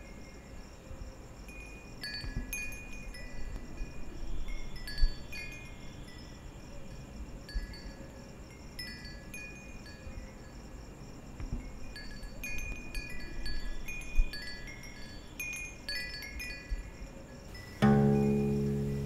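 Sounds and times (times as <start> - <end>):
wind chimes ringing: 1.5 - 6.5, 7.5 - 10.6, 11.6 - 19.0.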